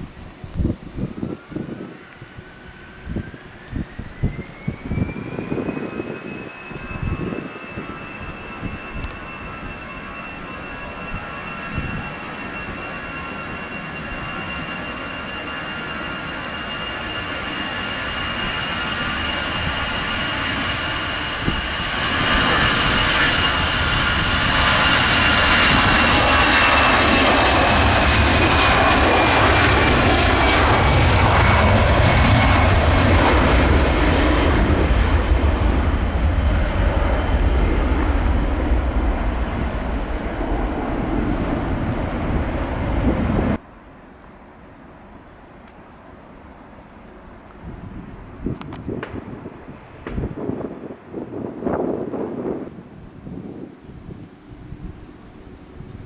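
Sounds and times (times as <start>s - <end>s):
jet engines passing: 0.0s - 56.0s.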